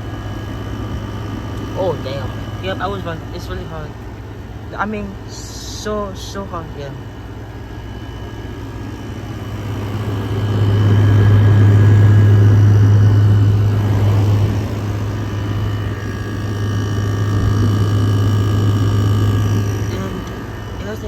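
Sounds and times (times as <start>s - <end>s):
air conditioner compressor humming: 0.0s - 21.0s
fan rushing: 0.0s - 21.0s.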